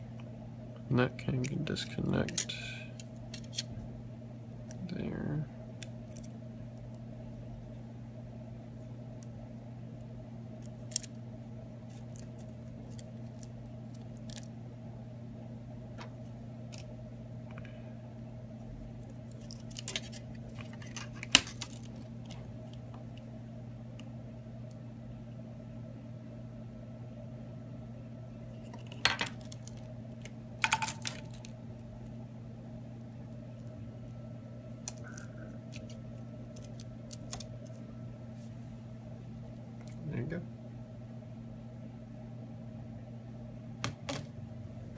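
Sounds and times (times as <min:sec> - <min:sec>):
electrical hum: 0:00.0 - 0:44.9.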